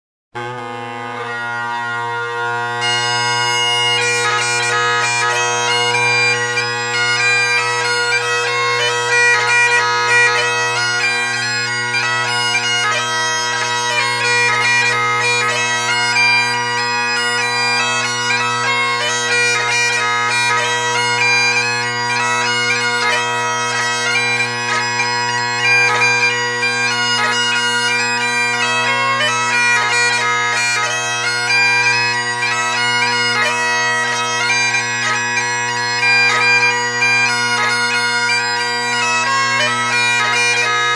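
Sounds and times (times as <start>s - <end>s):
bagpipe drones: 0.4s - 40.9s
bagpipe melody: 0.4s - 40.9s.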